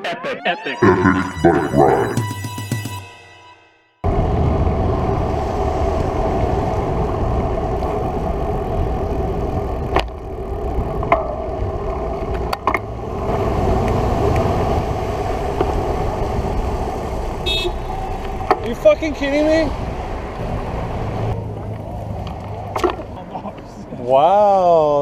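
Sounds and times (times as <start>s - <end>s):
road traffic noise: 4.1s - 24.4s.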